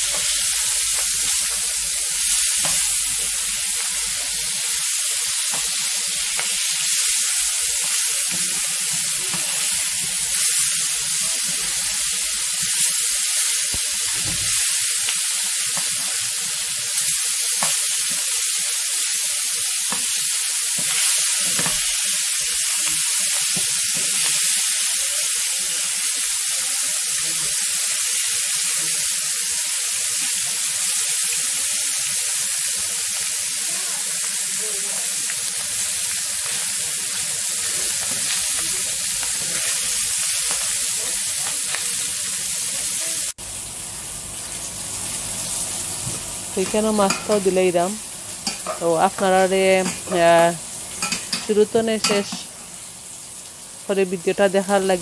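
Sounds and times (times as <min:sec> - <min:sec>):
fish sizzling in hot oil: 0:00.0 - 0:55.0.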